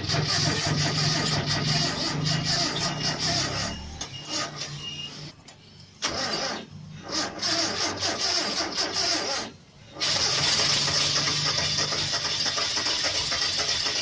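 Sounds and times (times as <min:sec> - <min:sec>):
engine cranking and starting: 0:00.0 - 0:04.8, 0:06.0 - 0:14.0.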